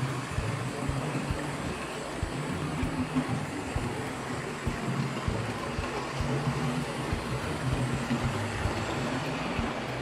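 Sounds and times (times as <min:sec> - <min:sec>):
model train motor hum: 0:00.0 - 0:10.0
wheels clicking on rails: 0:00.0 - 0:10.0.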